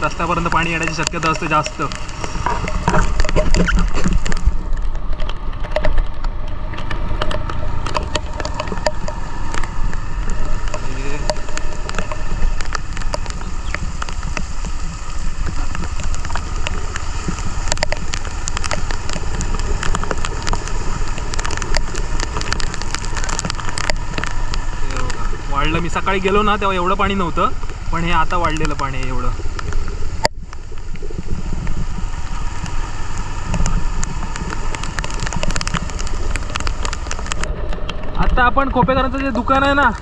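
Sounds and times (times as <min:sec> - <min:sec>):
muffled wind and engine rumble: 0:00.0 - 0:40.0
raindrops tapping on case: 0:00.0 - 0:40.0.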